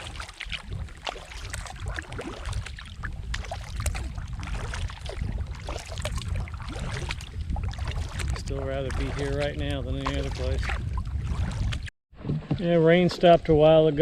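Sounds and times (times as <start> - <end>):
paddle splashing water: 0.0 - 13.4
wind rumble on microphone: 0.0 - 14.0.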